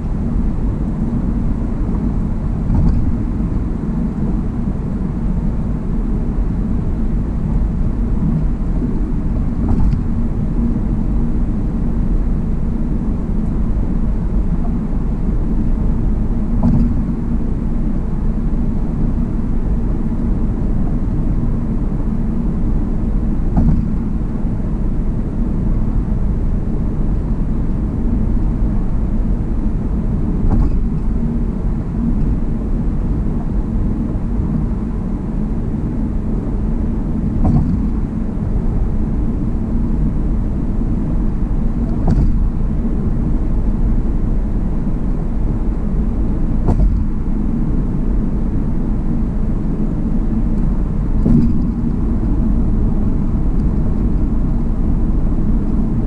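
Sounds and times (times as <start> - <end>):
car road rumble from inside: 0.0 - 56.0.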